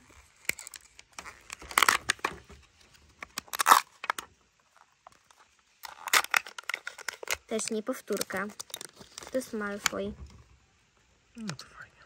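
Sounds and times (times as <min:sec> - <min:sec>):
plastic packaging crinkling and tearing: 0:00.0 - 0:10.0.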